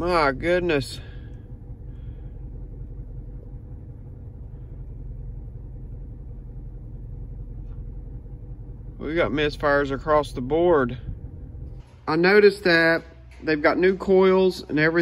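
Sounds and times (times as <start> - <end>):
misfiring car engine rumble: 0.0 - 15.0.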